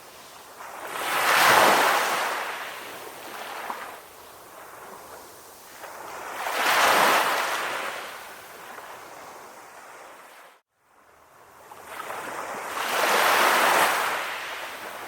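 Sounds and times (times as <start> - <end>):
waves breaking on shore: 0.0 - 10.6, 11.3 - 15.0.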